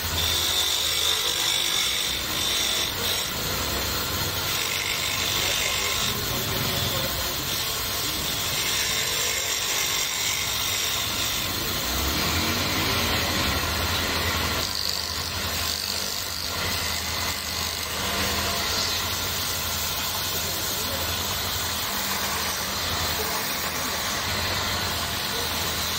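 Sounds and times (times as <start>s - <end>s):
lathe motor hum: 0.0s - 25.9s
turning tool shaving wood: 0.0s - 25.9s.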